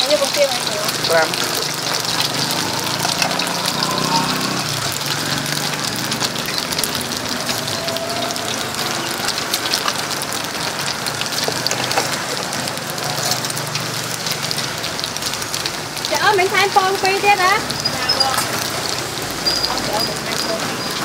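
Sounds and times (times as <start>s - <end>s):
oil sizzling and popping: 0.0s - 21.0s.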